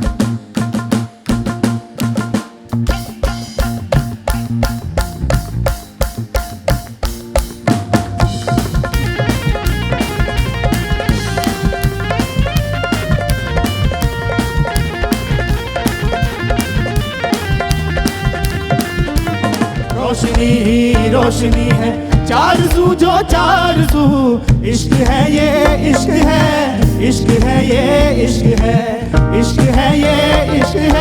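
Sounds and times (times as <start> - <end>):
band playing melodic lines: 0.0 - 31.0
bass: 0.0 - 31.0
drum kit beat: 0.0 - 31.0.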